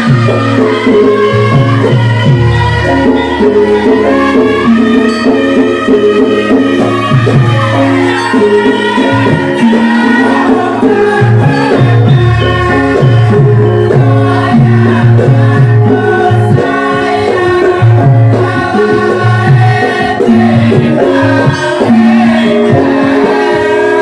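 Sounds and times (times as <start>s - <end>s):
drum-like beat: 0.0s - 24.0s
gamelan music: 0.0s - 24.0s
person singing: 0.0s - 24.0s.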